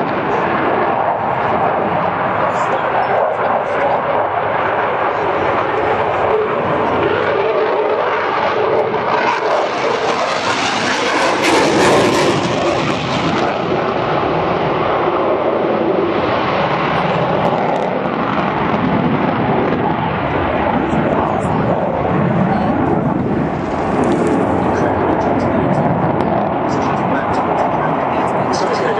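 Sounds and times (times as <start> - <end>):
jet engine roar: 0.0 - 28.9.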